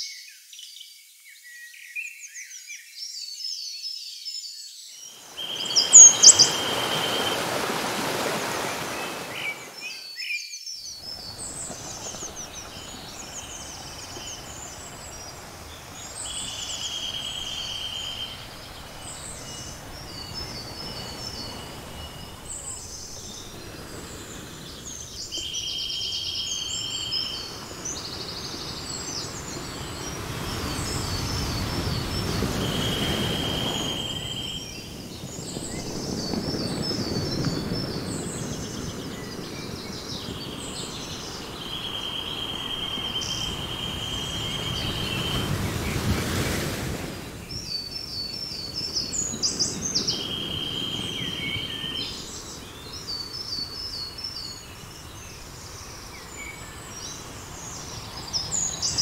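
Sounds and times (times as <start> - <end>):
small birds chirping: 1.4 - 59.0
rushing stream noise: 5.2 - 10.0, 11.0 - 59.0.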